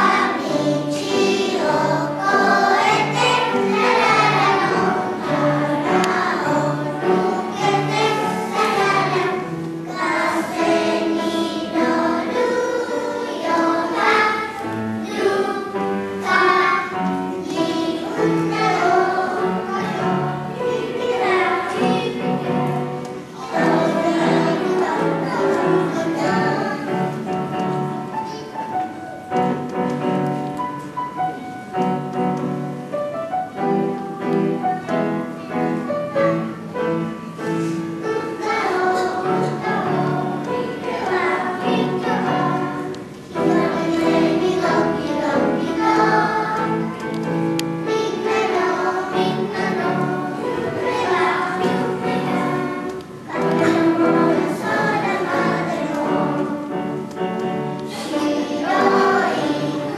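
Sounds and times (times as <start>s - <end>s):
children's choir singing: 0.0s - 59.9s
piano accompaniment: 0.0s - 59.9s.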